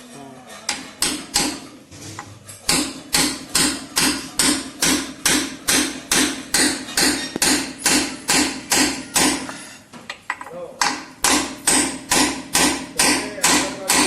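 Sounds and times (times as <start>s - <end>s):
hand hammering on metal: 0.7s - 1.8s, 2.7s - 14.0s.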